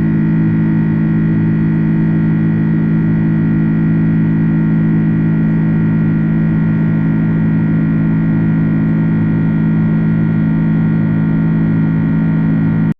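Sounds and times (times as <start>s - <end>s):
high engine whine: 0.0s - 12.9s
jet engines droning in cabin: 0.0s - 12.9s.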